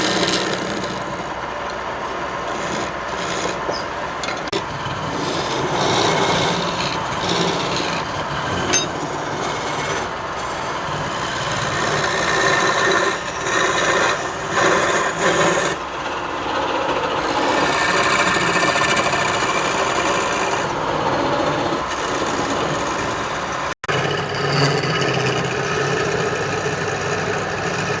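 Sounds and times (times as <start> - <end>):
lathe tool cutting spinning wood: 0.0 - 28.0.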